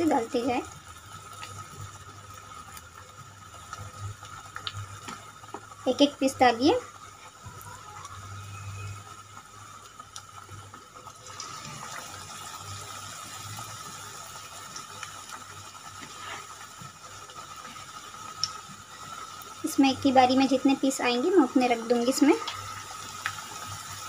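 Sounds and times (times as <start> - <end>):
deep-frying sizzle and bubbling: 0.0 - 24.0.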